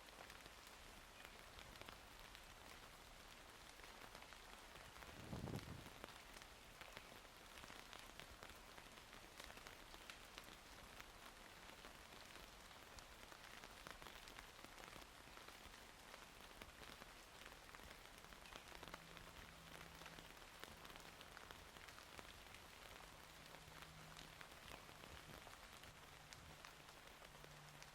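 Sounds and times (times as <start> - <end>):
rain pattering: 0.0 - 27.9.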